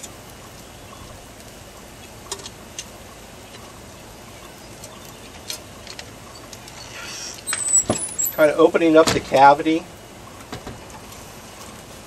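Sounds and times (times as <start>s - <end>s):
grill hissing: 0.0s - 12.0s.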